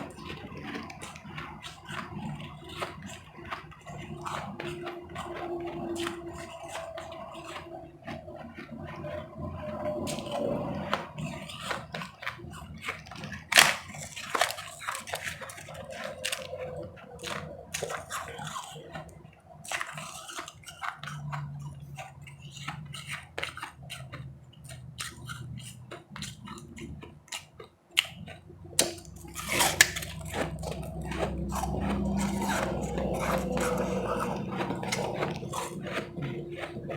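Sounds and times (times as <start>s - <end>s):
chewing ice chips crunching: 0.0s - 36.9s.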